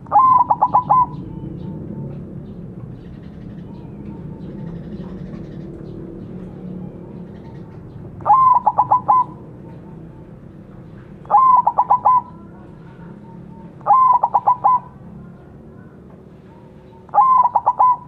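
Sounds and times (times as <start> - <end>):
dove cooing song: 0.0 - 18.0.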